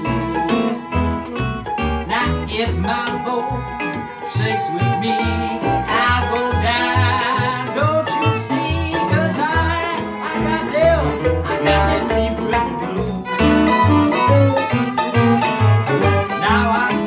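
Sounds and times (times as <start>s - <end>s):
acoustic blues band playing: 0.0s - 17.0s
sliding guitar melody: 0.0s - 17.0s
steady bass notes: 0.0s - 17.0s.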